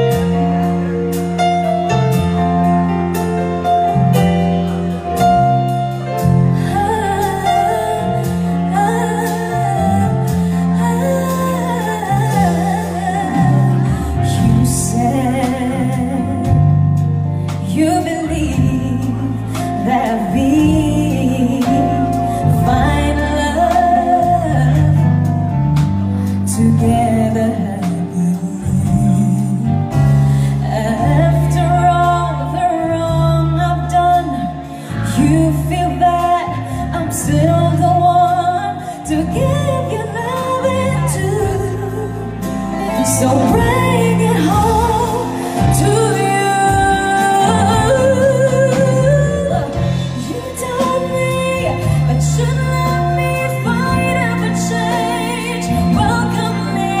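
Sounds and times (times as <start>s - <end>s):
live band playing: 0.0s - 57.0s
woman singing a ballad: 2.4s - 57.0s.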